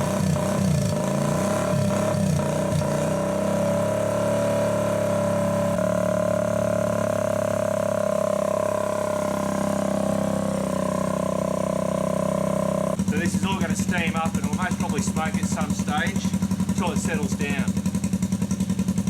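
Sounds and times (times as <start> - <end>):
motorbike engine revving and idling: 0.0 - 19.0.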